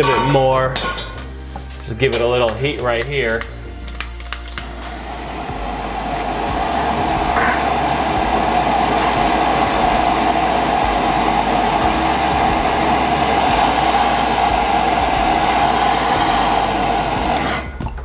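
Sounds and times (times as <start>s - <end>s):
gas torch flame rushing: 2.6s - 17.8s.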